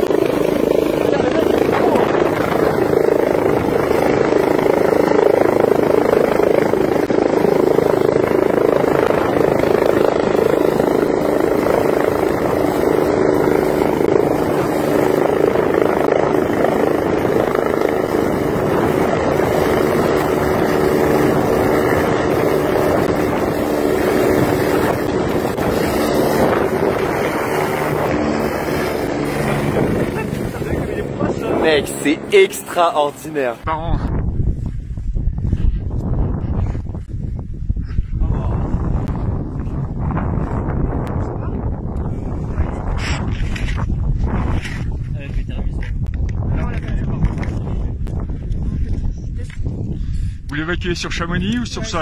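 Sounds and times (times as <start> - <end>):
helicopter hovering: 0.0 - 52.0.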